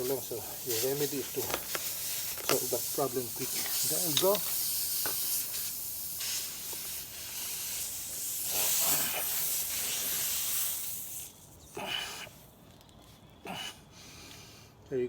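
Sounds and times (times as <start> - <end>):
air hissing from tyre: 0.0 - 12.5.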